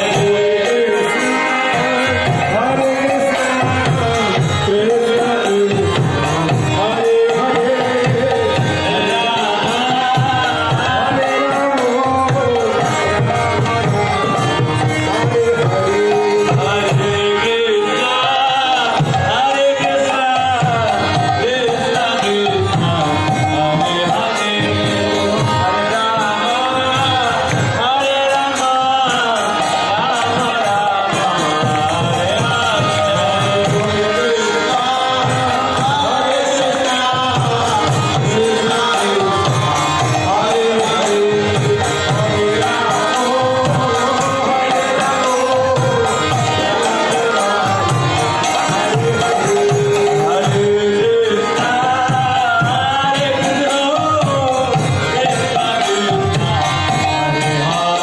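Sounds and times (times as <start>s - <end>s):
voices singing a chant: 0.0s - 58.0s.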